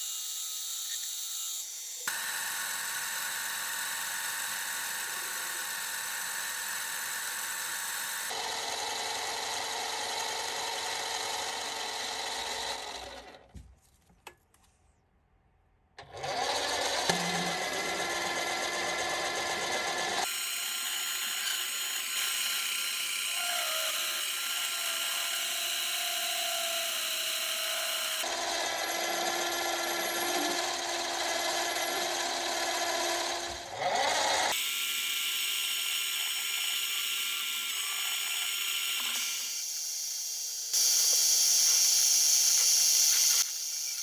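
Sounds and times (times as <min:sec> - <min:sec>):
metal lathe motor whine: 0:00.8 - 0:08.8, 0:16.4 - 0:44.0.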